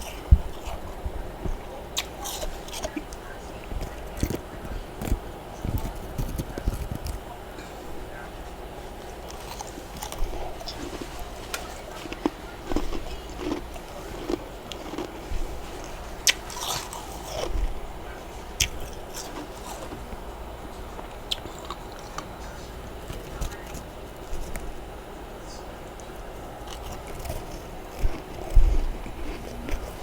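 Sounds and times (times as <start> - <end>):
crunching frost: 0.0 - 30.0.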